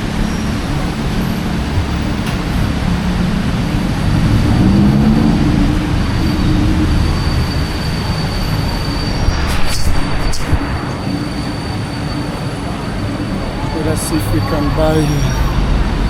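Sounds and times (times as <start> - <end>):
high whine from wheels: 0.0 - 16.0
train rumbling: 0.0 - 16.0.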